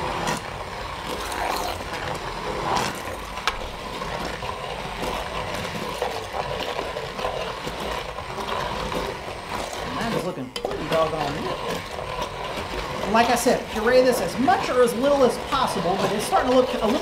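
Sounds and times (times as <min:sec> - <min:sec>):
immersion blender running: 0:00.0 - 0:17.0.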